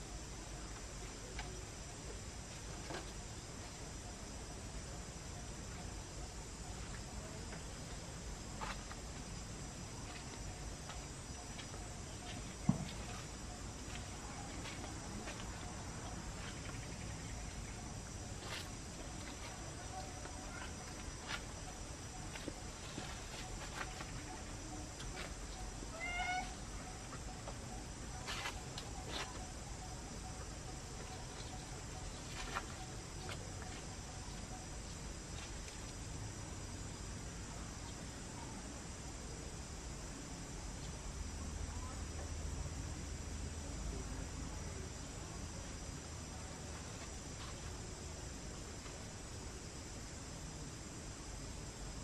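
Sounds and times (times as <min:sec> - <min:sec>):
low outdoor background: 0:00.0 - 0:52.0.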